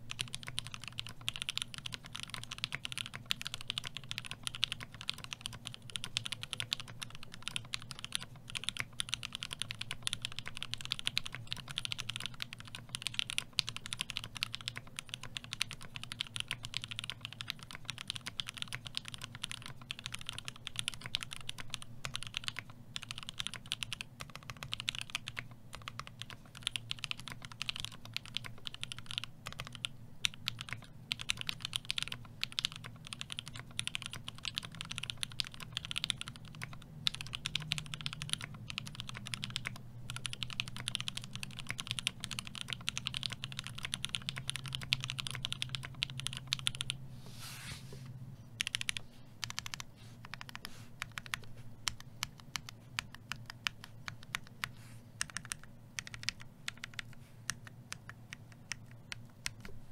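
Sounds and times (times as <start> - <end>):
typing on mechanical keyboard: 0.0 - 47.0, 48.6 - 59.9.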